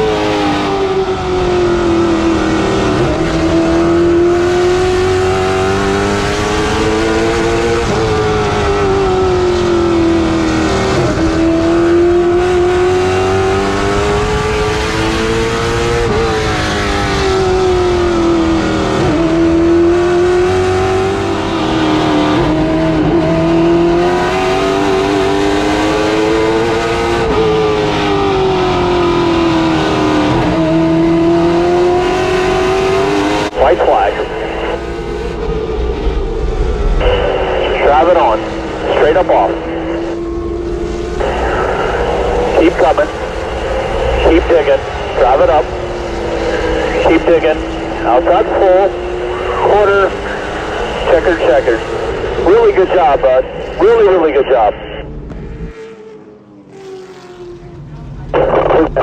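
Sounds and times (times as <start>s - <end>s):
stock car engines racing: 0.0s - 59.0s.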